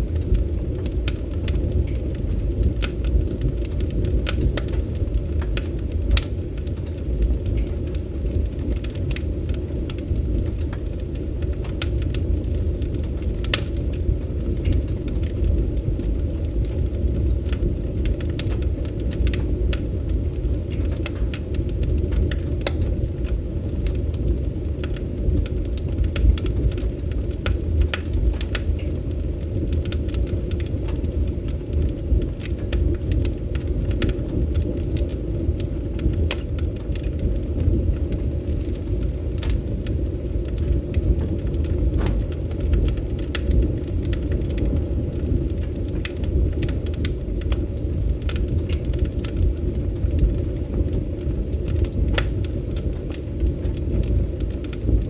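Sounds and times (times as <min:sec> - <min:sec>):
fire crackling and popping: 0:00.0 - 0:55.0
fire rumbling in a fireplace: 0:00.0 - 0:55.0.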